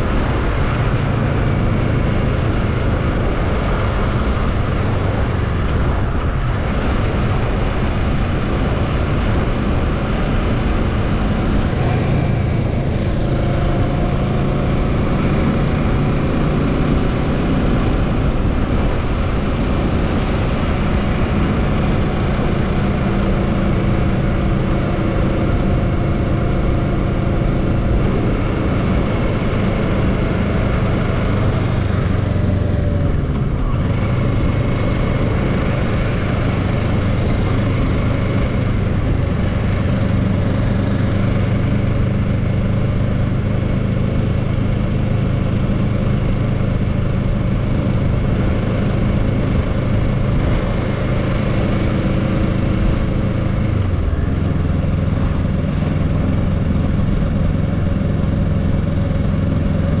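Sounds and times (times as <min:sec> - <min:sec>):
motorcycle engine running: 0:00.0 - 1:00.0
wind noise: 0:00.0 - 1:00.0.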